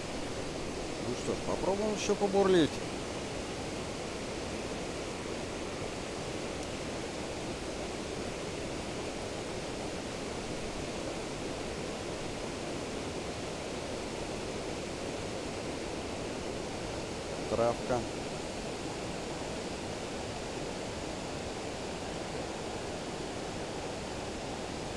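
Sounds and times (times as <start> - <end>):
river rushing over rocks: 0.0 - 24.9.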